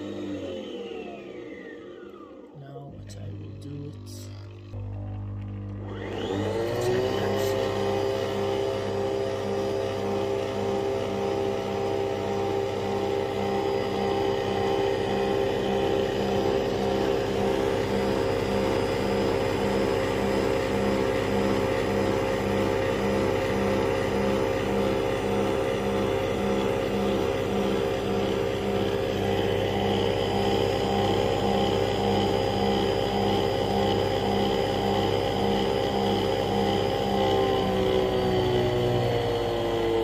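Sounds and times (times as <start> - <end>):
coffee machine spinning whine: 0.0 - 40.0.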